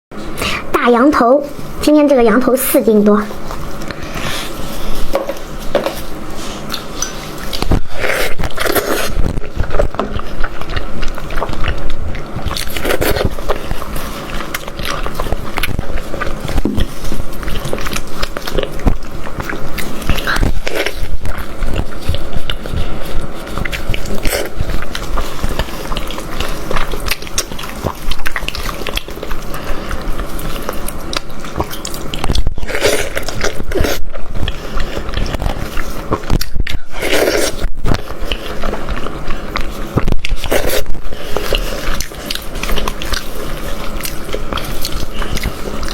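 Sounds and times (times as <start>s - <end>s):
person chewing meat: 3.3s - 45.9s.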